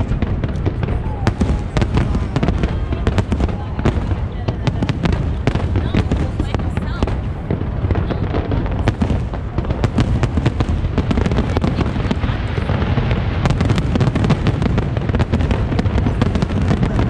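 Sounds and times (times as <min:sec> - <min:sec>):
continuous rumble: 0:00.0 - 0:17.0
fireworks bangs and crackles: 0:00.0 - 0:17.0.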